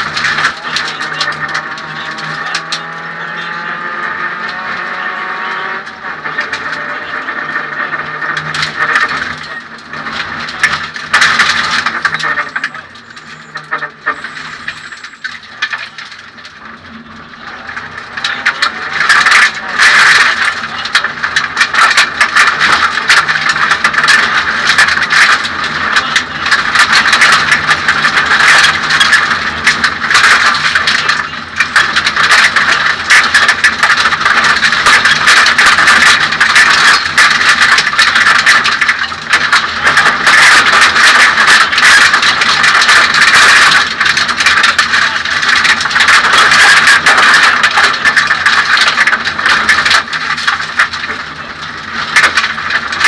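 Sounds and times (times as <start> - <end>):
car engine running hard: 0.0 - 53.0.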